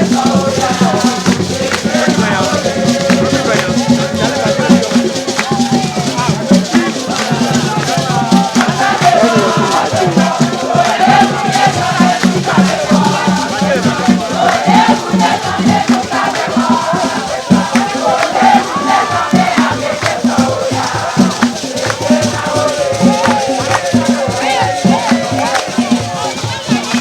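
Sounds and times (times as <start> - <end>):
crowd singing and shouting chants: 0.0 - 27.0
shaker percussion: 0.0 - 27.0
steady drum beat: 0.0 - 27.0.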